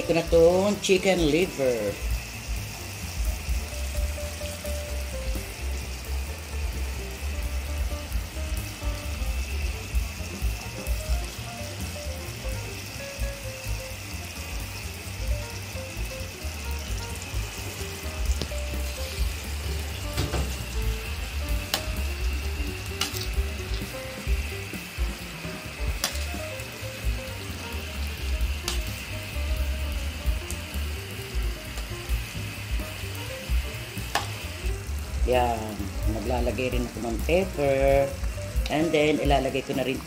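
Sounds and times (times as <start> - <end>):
food sizzling in bubbling sauce: 0.0 - 40.0.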